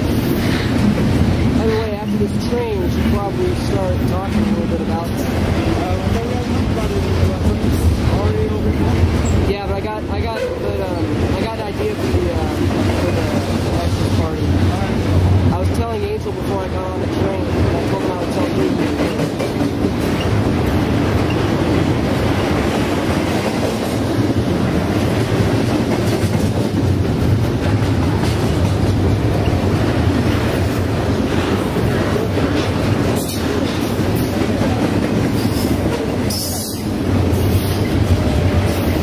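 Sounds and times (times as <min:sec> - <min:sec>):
freight train rumbling on rails: 0:00.0 - 0:39.0.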